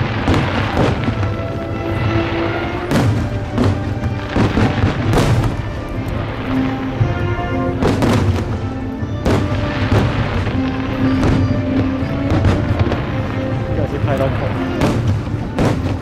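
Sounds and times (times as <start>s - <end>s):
fireworks booming: 0.0s - 16.0s
music playing: 0.0s - 16.0s.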